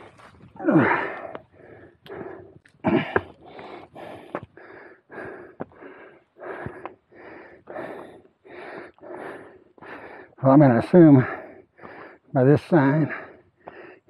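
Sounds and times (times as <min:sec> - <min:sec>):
man breathing hard: 0:00.2 - 0:10.4, 0:11.1 - 0:12.3, 0:13.0 - 0:14.0.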